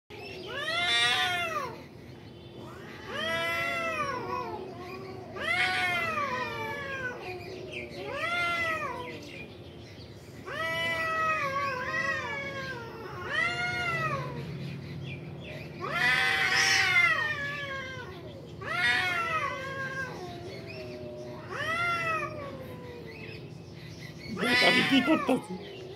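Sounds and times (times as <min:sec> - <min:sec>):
cat yowling: 0:00.5 - 0:01.8, 0:02.6 - 0:09.4, 0:10.4 - 0:14.5, 0:15.8 - 0:23.4, 0:24.3 - 0:25.8.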